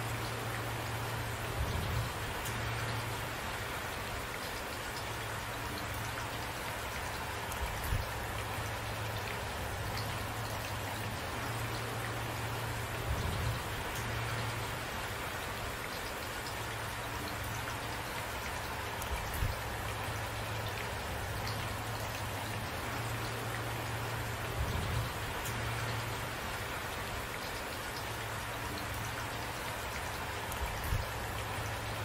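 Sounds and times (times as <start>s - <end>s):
steady rain patter: 0.0s - 32.0s.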